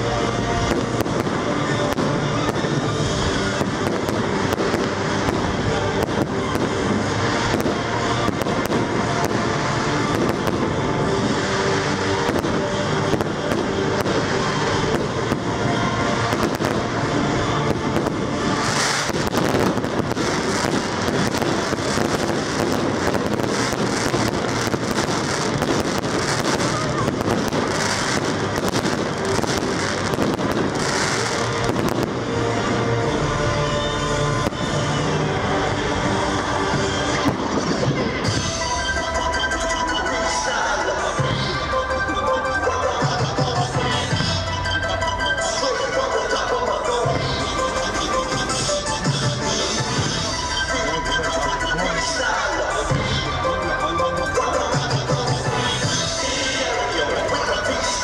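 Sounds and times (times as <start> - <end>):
fireworks bursting and crackling: 0.0 - 58.0
music with sustained tones: 0.0 - 58.0.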